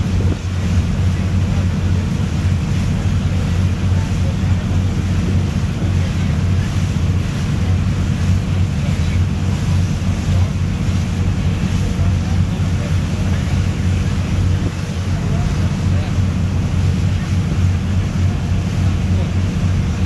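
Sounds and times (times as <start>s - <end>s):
boat engine drone: 0.0s - 20.0s
water splashing on hull: 0.0s - 20.0s
wind buffeting microphone: 0.0s - 20.0s.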